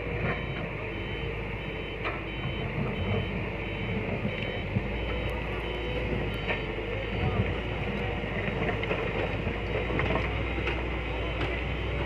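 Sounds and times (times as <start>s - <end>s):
diesel truck engine running: 0.0s - 12.0s
reversing alarm beeping: 0.0s - 12.0s.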